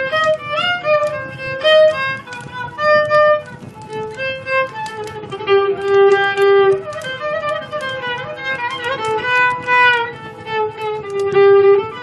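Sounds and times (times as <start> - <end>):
plucked lutes: 0.0 - 12.0
violin melody: 0.0 - 12.0.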